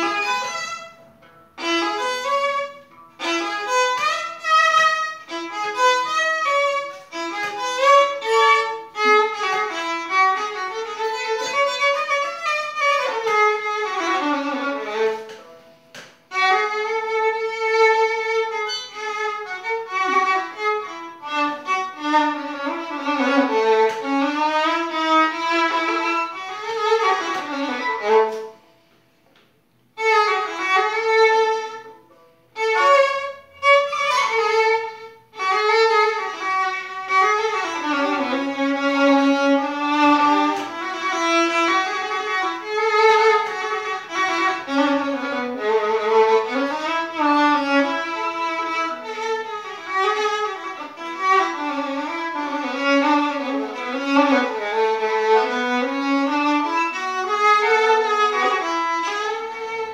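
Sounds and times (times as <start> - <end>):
solo violin melody: 0.0 - 29.1, 29.8 - 59.9.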